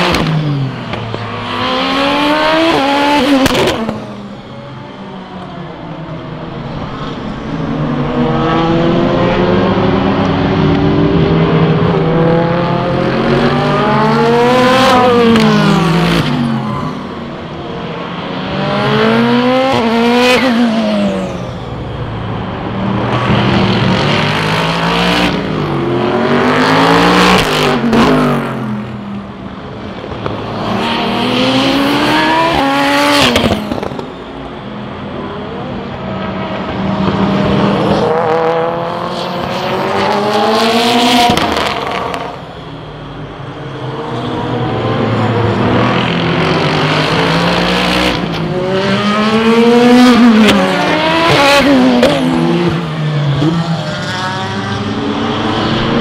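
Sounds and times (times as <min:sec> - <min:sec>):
racing cars revving through corner: 0:00.0 - 0:56.0.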